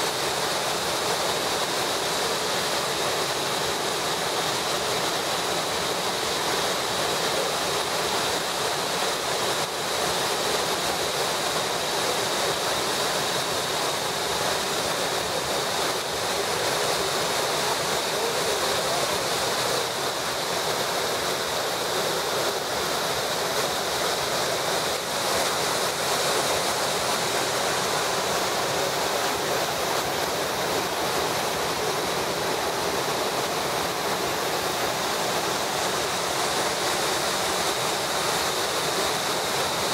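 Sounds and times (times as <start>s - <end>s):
river rapids: 0.0s - 39.9s
waterfall rushing: 0.0s - 39.9s.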